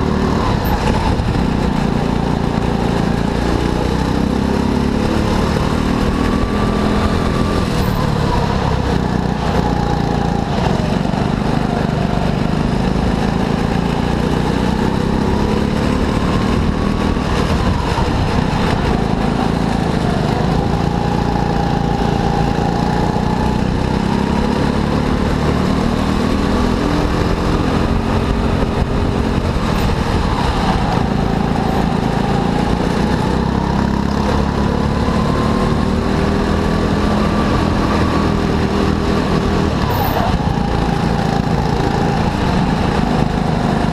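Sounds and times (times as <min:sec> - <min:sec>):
go-kart engine racing: 0:00.0 - 0:43.9.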